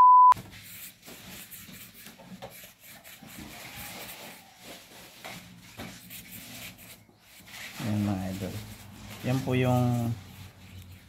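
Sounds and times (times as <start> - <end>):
pastry brush rubbing dough: 0.4 - 11.0.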